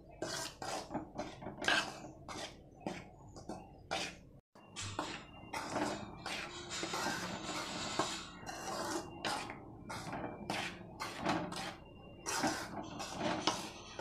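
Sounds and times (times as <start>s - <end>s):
metal spoon scraping rice flour: 0.0s - 14.0s.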